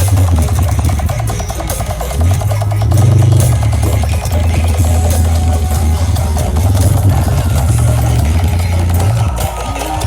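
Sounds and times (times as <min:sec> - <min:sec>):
loud bass-heavy music over speakers: 0:00.0 - 0:10.0.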